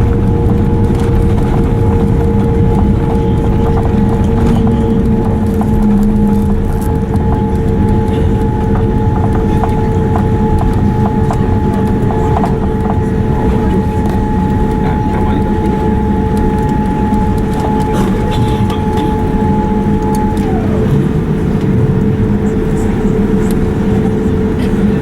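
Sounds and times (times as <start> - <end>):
jet airliner cabin rumble: 0.0 - 25.0
steady whine: 0.0 - 25.0.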